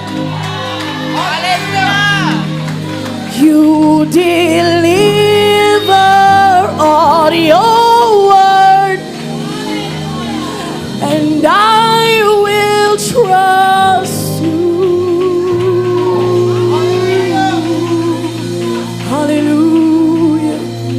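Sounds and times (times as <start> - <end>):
band with keyboard chords: 0.0 - 20.9
singers holding wavering notes: 0.0 - 20.9.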